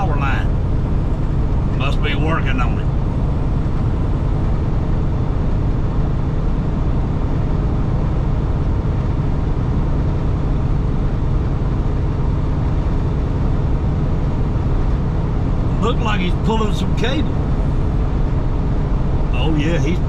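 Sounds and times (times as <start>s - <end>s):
truck engine and tyres droning: 0.0s - 20.0s.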